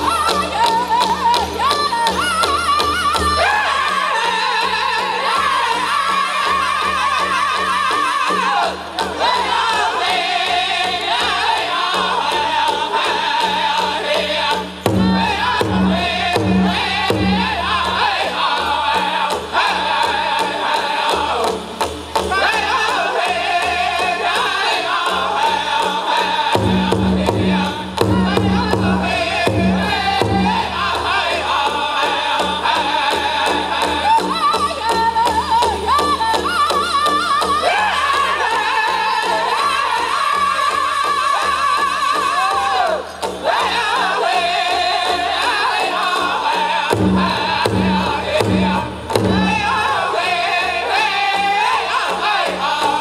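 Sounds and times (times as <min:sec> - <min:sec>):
group singing in high voices: 0:00.0 - 0:53.0
drum steady beat: 0:07.0 - 0:53.0.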